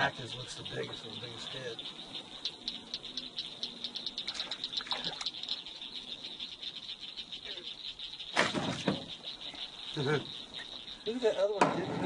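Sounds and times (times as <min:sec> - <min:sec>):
insects and frogs trilling: 0:00.0 - 0:12.0.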